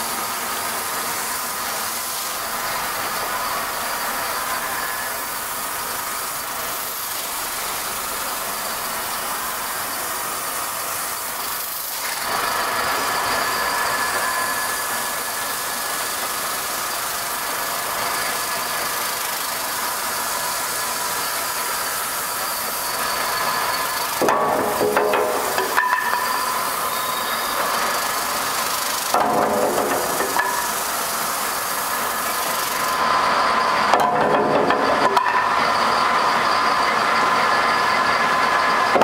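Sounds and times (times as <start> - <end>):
sander hissing: 0.0 - 33.9.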